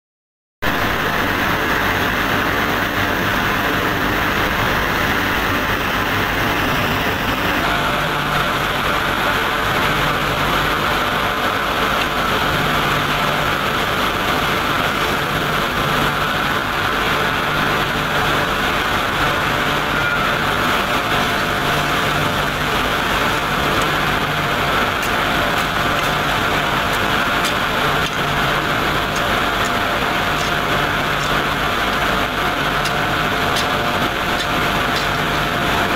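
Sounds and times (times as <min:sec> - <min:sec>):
industrial roar and hiss: 0:00.6 - 0:35.9.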